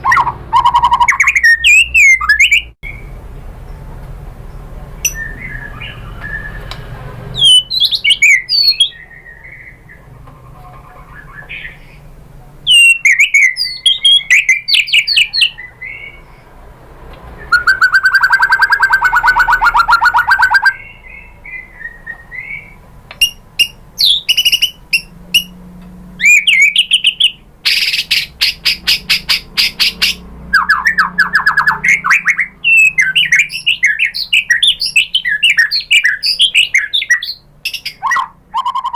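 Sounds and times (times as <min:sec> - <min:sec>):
bird singing varied song: 0:00.0 - 0:16.6, 0:17.3 - 0:25.6, 0:26.2 - 0:38.9.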